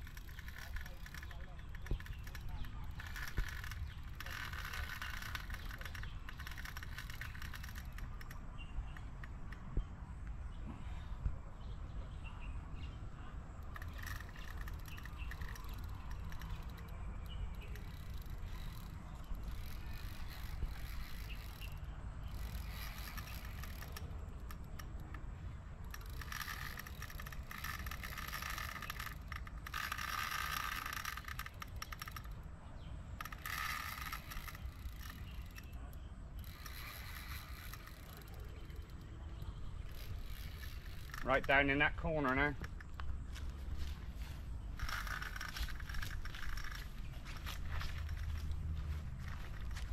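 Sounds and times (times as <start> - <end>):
fishing reel whirring: 0.0 - 8.4, 13.6 - 32.5, 33.2 - 43.0, 44.7 - 48.5.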